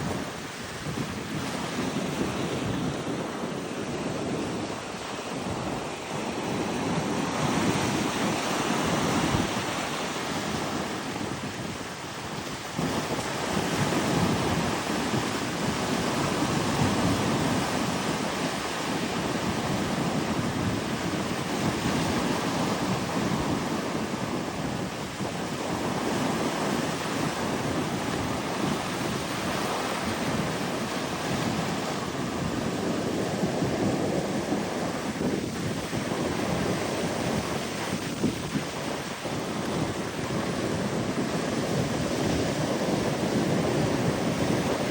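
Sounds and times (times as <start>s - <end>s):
ocean surf breaking: 0.0s - 44.9s
wind on microphone: 0.0s - 44.9s.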